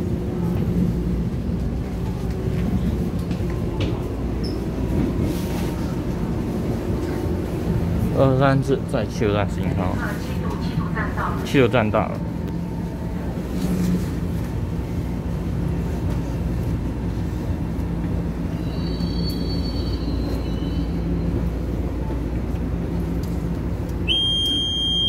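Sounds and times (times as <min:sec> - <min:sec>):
train equipment rumble and hum: 0:00.0 - 0:25.0.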